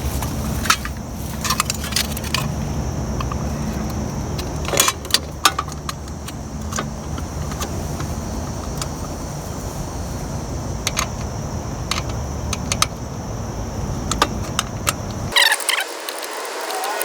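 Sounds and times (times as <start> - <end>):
steady low rumble: 0.0 - 15.3.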